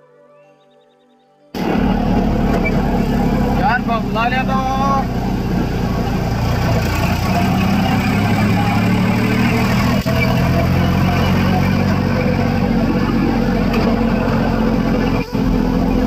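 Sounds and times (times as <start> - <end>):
tractor diesel engine running: 1.6 - 16.0.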